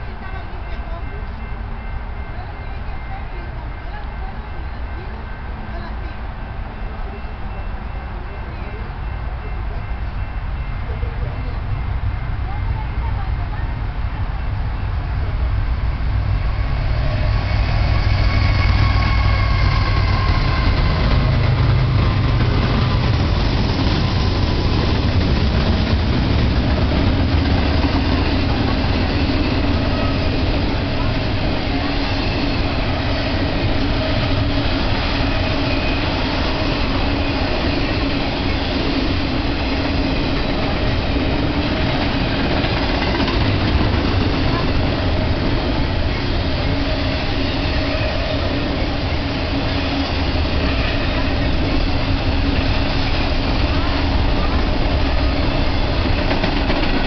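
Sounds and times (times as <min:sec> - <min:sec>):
diesel locomotive engines: 0:00.0 - 0:57.0
wheels rumbling on rail: 0:00.0 - 0:57.0.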